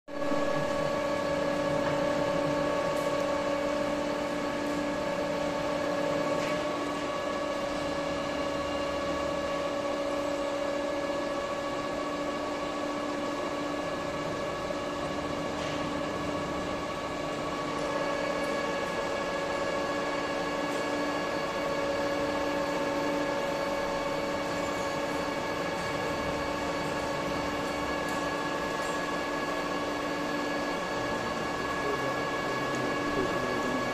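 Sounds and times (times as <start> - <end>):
workshop machinery hum: 0.1 - 33.9.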